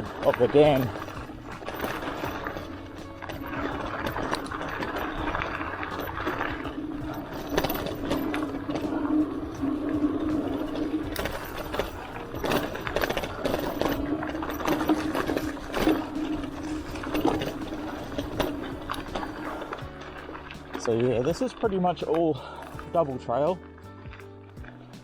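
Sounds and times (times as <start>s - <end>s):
bike tyres humming on dirt trail: 0.0s - 23.0s
bike clicks and rattles: 0.0s - 25.0s.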